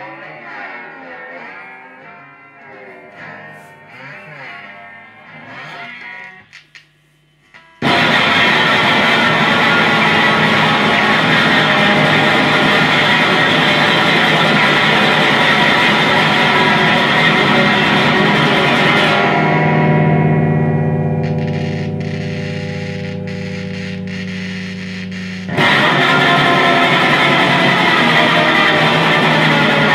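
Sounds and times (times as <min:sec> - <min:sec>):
distorted electric guitar noise: 0:00.0 - 0:29.9.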